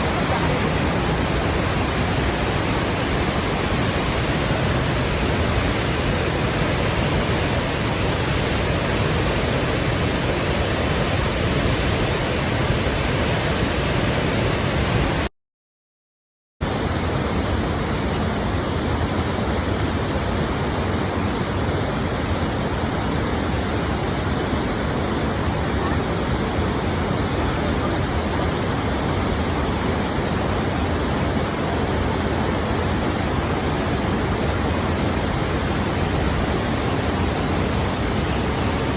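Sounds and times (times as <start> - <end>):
water rushing: 0.0 - 15.3, 16.6 - 38.9.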